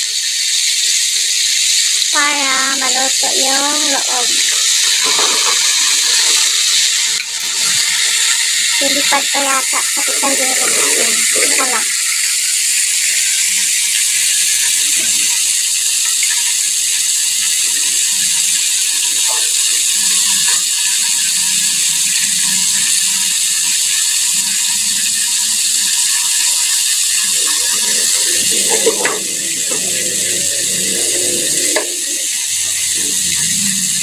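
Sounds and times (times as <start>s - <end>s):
hot oil sizzling and crackling: 0.0s - 34.0s.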